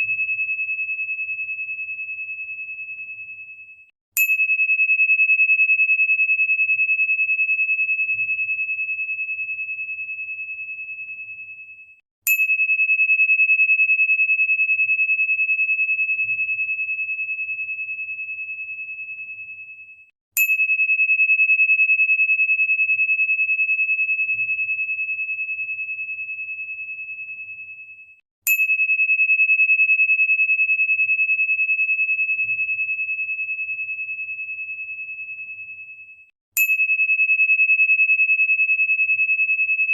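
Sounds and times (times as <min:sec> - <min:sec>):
high pure ringing tone: 0:00.0 - 0:39.9.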